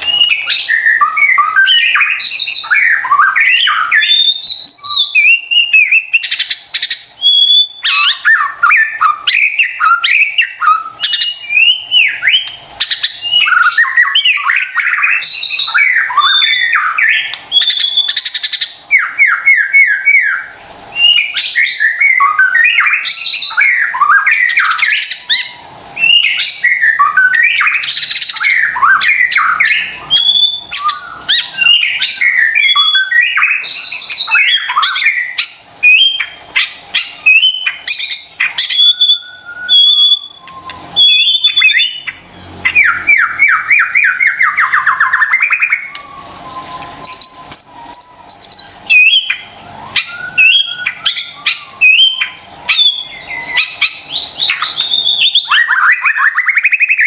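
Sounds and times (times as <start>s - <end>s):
bird singing chirps and whistles: 0.0s - 57.0s.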